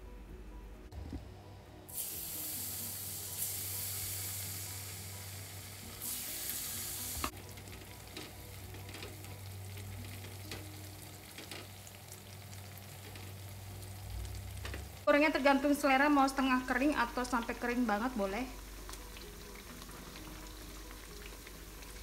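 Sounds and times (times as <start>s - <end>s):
food sizzling in hot oil: 1.9s - 22.0s.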